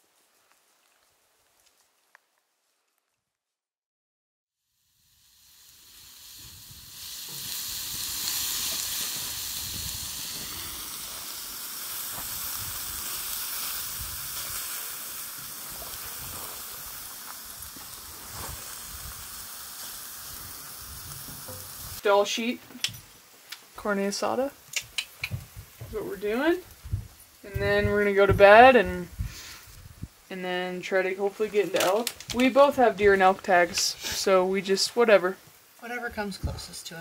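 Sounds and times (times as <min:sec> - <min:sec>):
vegetables sizzling on a griddle: 0:04.6 - 0:37.0.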